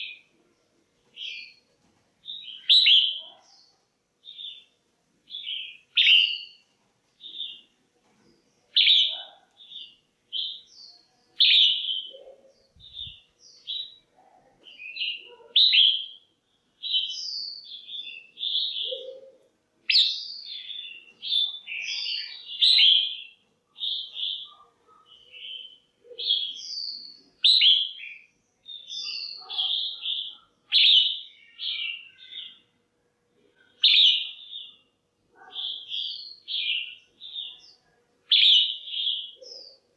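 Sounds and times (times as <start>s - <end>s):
bird chirping and warbling: 0.0s - 0.3s, 1.2s - 1.6s, 2.2s - 4.7s, 5.3s - 6.6s, 7.2s - 7.7s, 8.7s - 16.2s, 16.8s - 32.7s, 33.7s - 34.8s, 35.4s - 39.9s.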